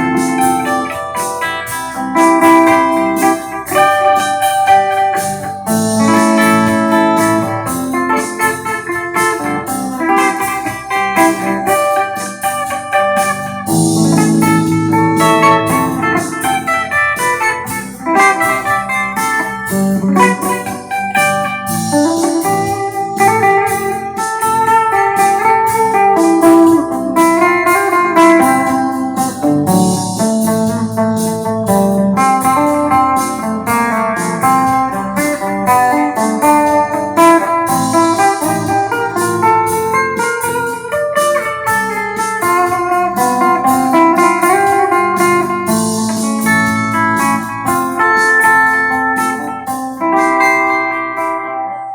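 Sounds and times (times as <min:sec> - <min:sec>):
backing track with steady beat: 0:00.0 - 0:51.9
clean electric guitar melody: 0:00.0 - 0:51.9.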